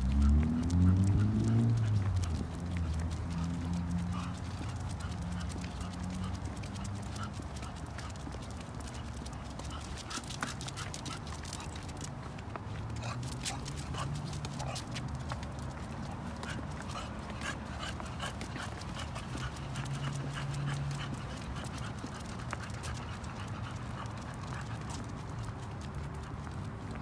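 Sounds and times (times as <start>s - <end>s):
dog claws clicking on pavement: 0.0s - 27.0s
footsteps on concrete: 0.1s - 27.0s.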